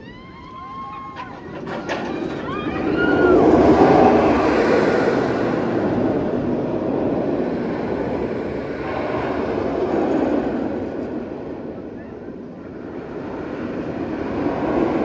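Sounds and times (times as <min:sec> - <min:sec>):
roller coaster rumbling roar: 0:00.0 - 0:15.0.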